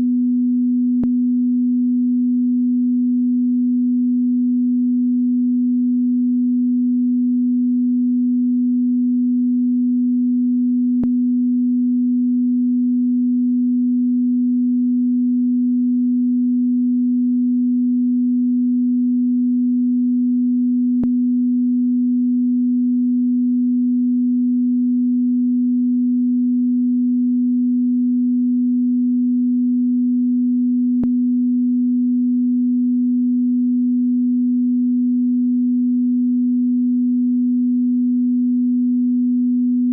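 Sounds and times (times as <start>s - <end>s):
steady low telephone tone: 0.0s - 39.9s.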